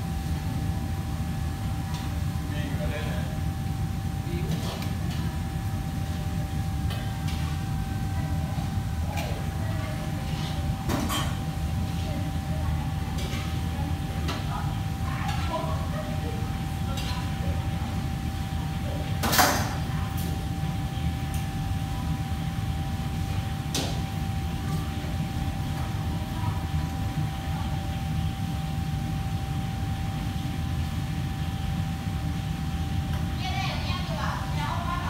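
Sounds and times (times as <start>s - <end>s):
low hum of commercial kitchen: 0.0s - 35.0s
thin constant whine: 0.0s - 35.0s.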